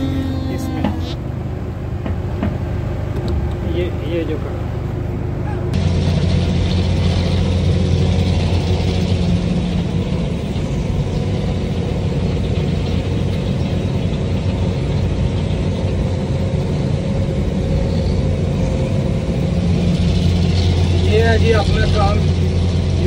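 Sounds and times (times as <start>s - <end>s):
diesel engine under hydraulic load: 0.0s - 23.0s.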